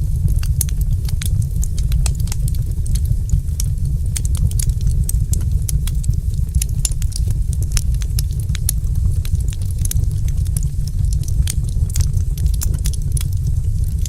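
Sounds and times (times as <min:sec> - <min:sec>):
fireplace fire crackling: 0:00.0 - 0:14.0.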